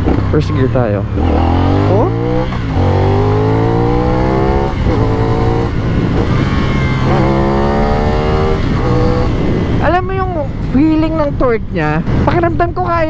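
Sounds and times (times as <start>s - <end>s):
motorcycle engine accelerating: 0.0s - 11.4s
wind rush: 1.1s - 13.0s.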